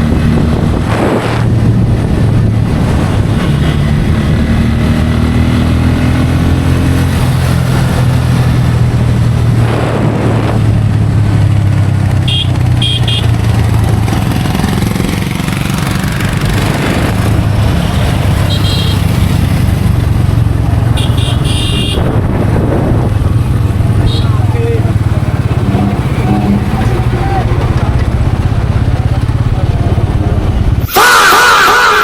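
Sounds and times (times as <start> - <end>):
motorcycle engine cruising: 0.0 - 30.9
passing traffic rush: 0.0 - 32.0
wind and road noise: 0.0 - 32.0.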